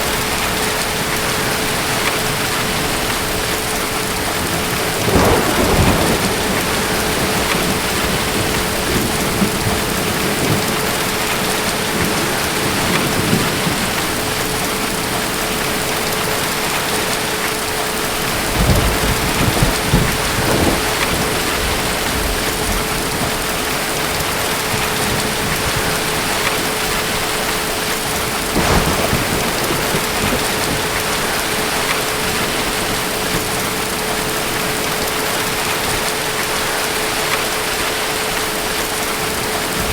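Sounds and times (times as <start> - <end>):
distant thunder rumbling: 0.0 - 17.3, 18.0 - 36.6
heavy rain falling: 0.0 - 39.9.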